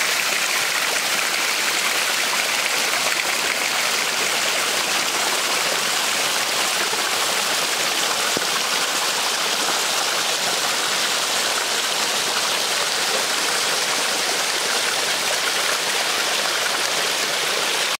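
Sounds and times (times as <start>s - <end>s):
small waterfall splashing: 0.0s - 18.0s.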